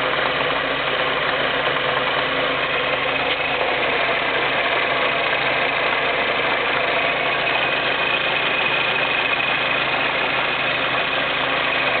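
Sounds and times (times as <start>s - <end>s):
car engine running: 0.0s - 12.0s
high transmission whine: 0.0s - 12.0s.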